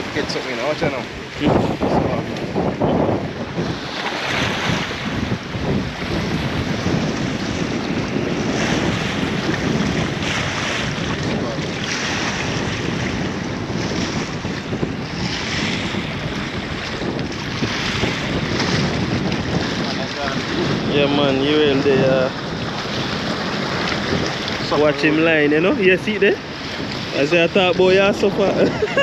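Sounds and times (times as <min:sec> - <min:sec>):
waves splashing against rocks: 0:00.0 - 0:29.0
wind buffeting microphone: 0:00.0 - 0:29.0.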